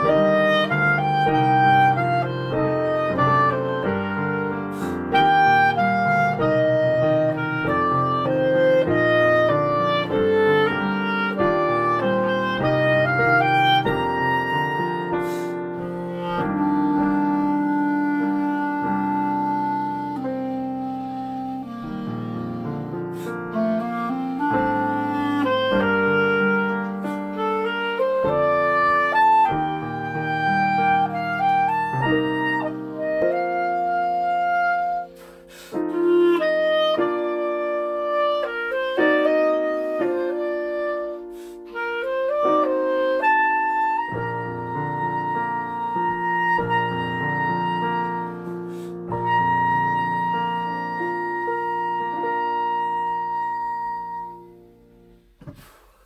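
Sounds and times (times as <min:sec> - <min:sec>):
piano accompaniment: 0:00.0 - 0:55.7
clarinet melody: 0:00.0 - 0:56.0.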